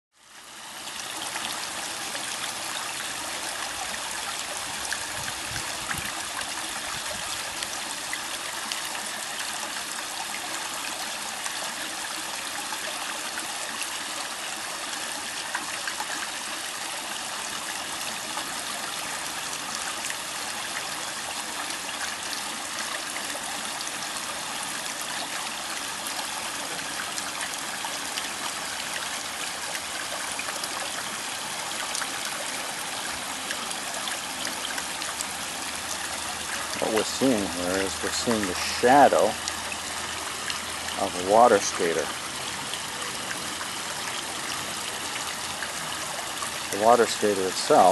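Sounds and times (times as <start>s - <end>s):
water trickling over rocks: 0.1s - 47.9s.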